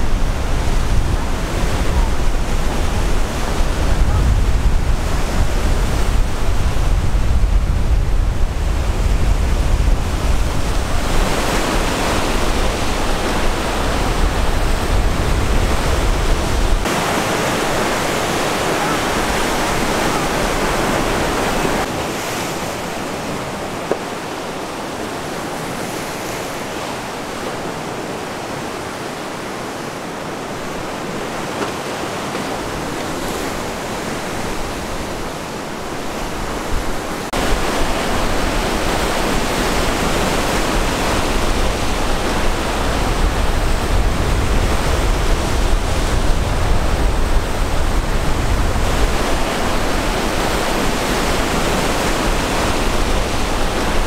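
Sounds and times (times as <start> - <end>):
waves breaking against rocks: 9.1 - 54.0.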